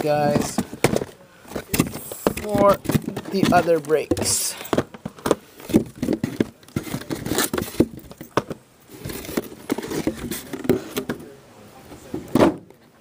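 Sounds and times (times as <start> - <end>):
cardboard boxes scraping and knocking: 0.0 - 11.2.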